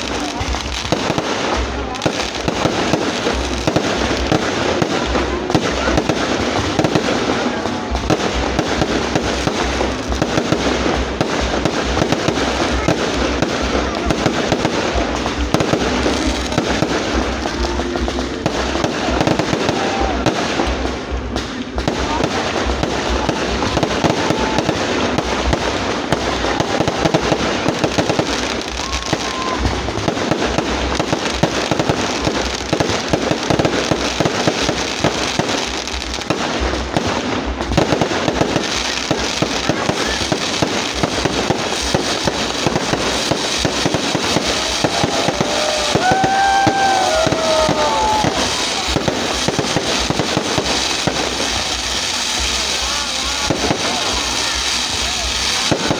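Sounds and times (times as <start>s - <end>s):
fireworks crackling and popping: 0.0s - 55.9s.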